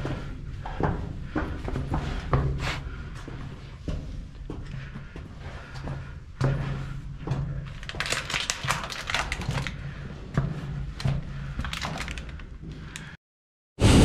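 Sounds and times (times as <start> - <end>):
footsteps on stone floor: 0.0 - 13.2.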